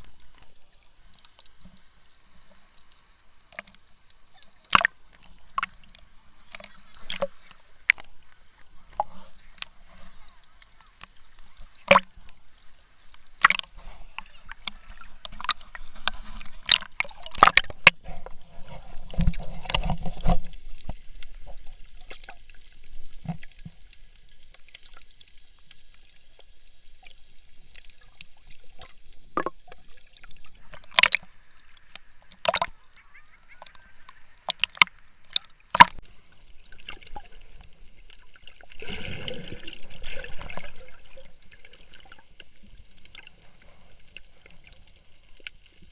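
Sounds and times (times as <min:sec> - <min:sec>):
water sloshing and gurgling: 0:00.0 - 0:45.9.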